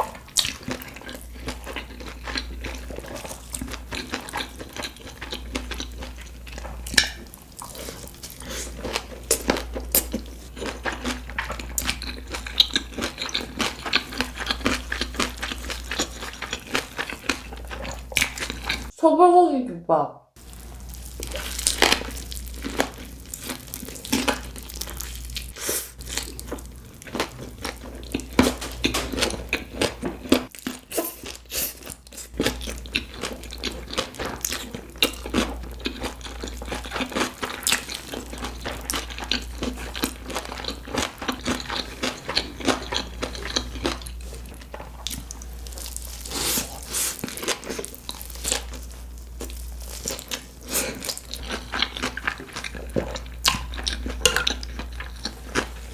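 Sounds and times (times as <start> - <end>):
chewing and biting food: 0.0 - 18.9, 20.5 - 55.9.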